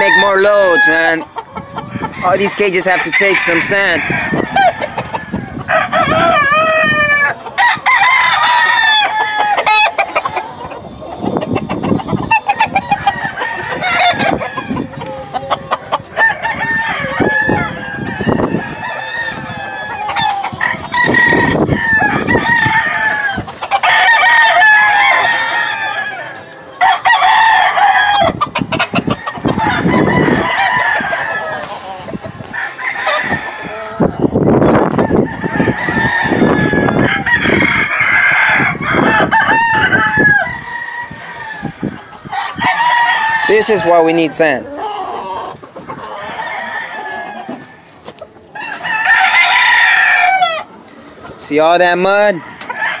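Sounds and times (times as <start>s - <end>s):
roosters crowing: 0.0s - 53.0s.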